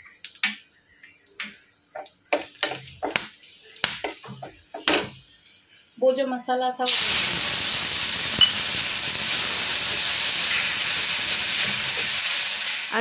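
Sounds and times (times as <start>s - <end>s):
masala sizzling in hot oil: 0.8s - 13.0s.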